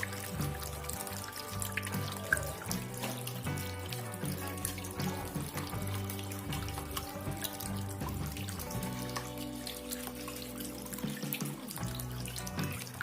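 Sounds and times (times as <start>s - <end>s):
background music: 0.0s - 13.0s
water splashing down fountain: 0.0s - 13.0s.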